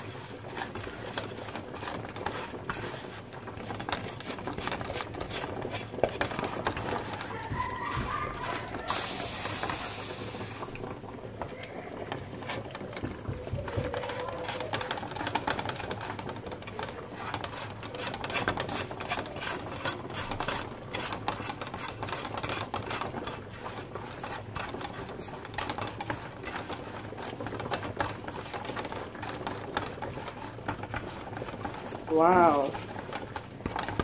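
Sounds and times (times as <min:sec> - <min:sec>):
spatula scraping sugar in pan: 0:00.0 - 0:10.7, 0:11.9 - 0:34.0.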